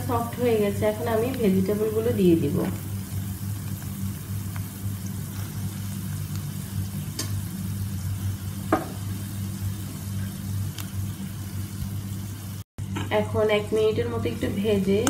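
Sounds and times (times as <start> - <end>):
vegetables sizzling in oil: 0.0 - 12.6.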